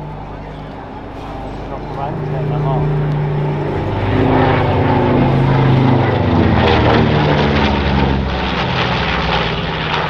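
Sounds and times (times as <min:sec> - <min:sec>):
propeller plane flying overhead: 0:00.0 - 0:10.0.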